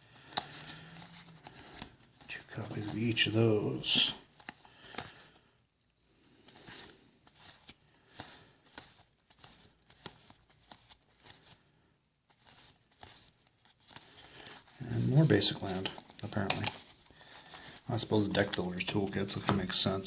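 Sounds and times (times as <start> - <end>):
cards flipping with papery clicks: 0.1 - 5.4, 6.4 - 11.6, 12.3 - 19.8.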